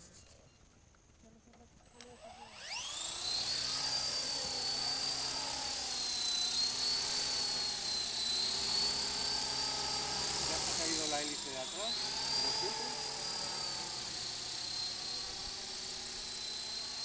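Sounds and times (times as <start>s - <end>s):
remote-control helicopter whine: 0.0s - 17.0s.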